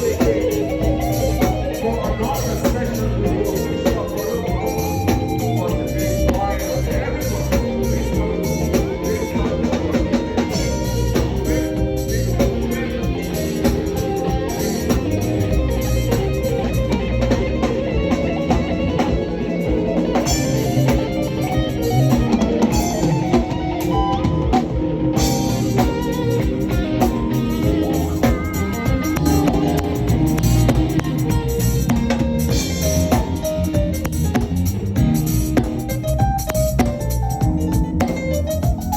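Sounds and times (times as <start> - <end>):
drum kit: 0.0 - 38.9
guitar: 0.0 - 38.9.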